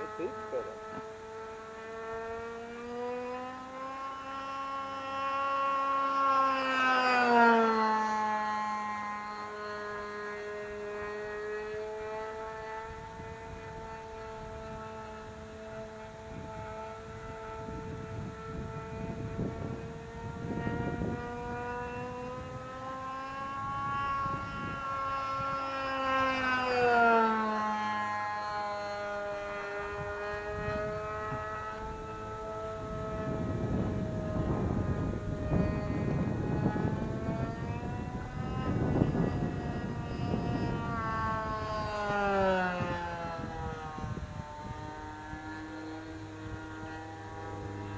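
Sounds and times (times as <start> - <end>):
model airplane engine buzzing: 0.0 - 47.9.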